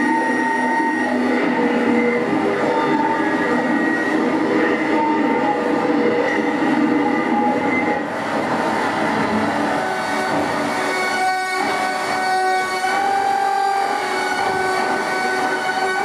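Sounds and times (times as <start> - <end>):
metallic squealing tones: 0.0 - 16.0.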